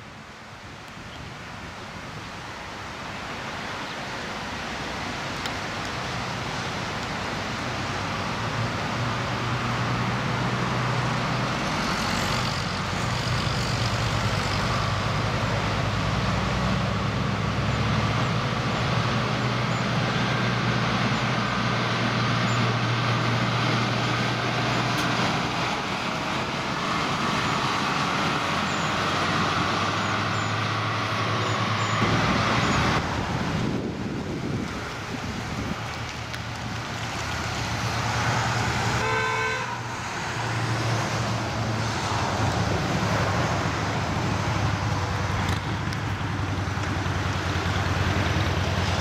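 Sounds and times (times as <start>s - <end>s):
rail motor engine drone: 0.0s - 49.0s.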